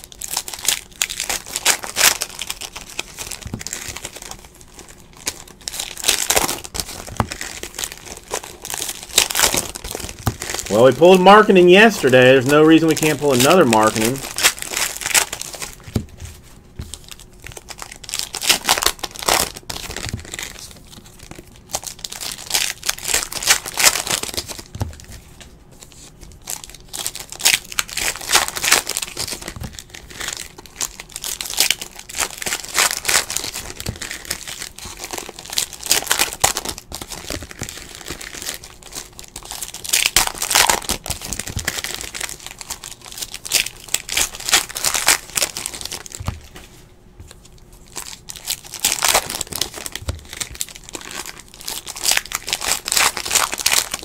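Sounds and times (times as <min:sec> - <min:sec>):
card wrappers tearing and crinkling: 0:00.0 - 0:54.0.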